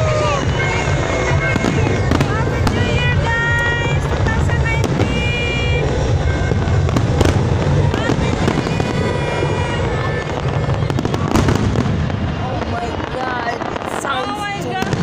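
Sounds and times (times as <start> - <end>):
sharp fireworks cracks: 0.0 - 15.0.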